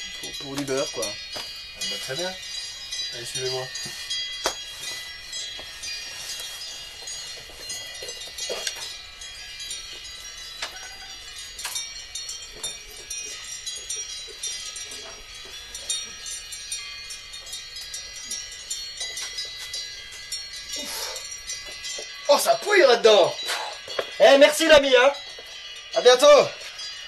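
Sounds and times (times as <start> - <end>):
metal bells ringing: 0.0 - 27.0.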